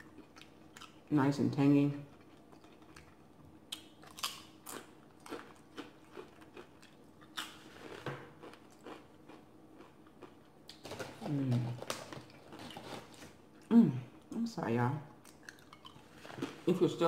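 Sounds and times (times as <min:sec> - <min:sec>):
chewing crunchy chip: 0:00.0 - 0:01.1, 0:02.0 - 0:13.7, 0:15.2 - 0:16.7.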